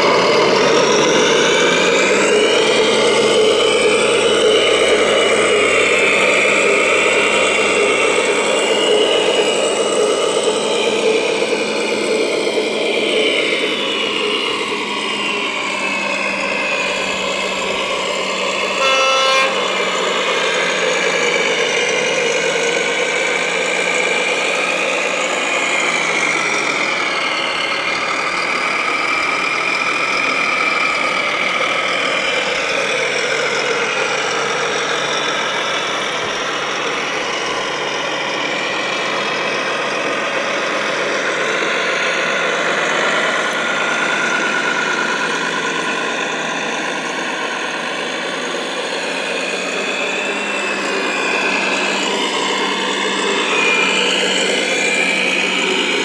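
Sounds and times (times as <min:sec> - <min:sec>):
model trucks engine drone: 0:00.0 - 0:56.0
whining tones: 0:00.0 - 0:56.0.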